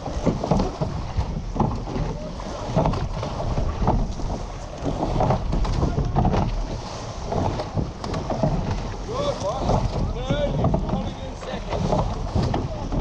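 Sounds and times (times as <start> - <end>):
water rushing along boat hull: 0.0 - 13.0
wind buffeting microphone: 0.0 - 13.0.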